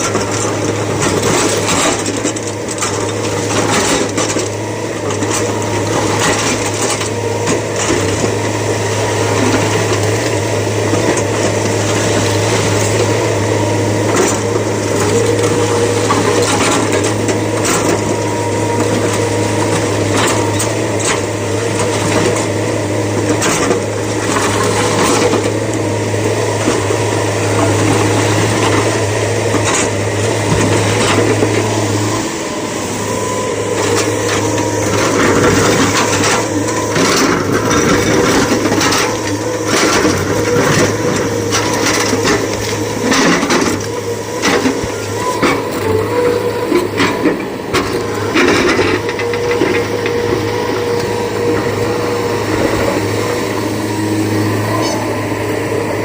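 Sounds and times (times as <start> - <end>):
diesel machinery humming: 0.0 - 56.0.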